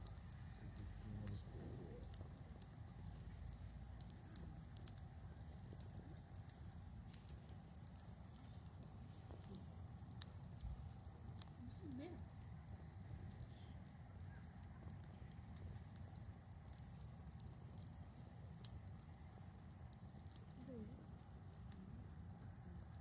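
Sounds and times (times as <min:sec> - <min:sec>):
campfire crackling and popping: 0:00.0 - 0:23.0
low steady rumble: 0:00.0 - 0:23.0.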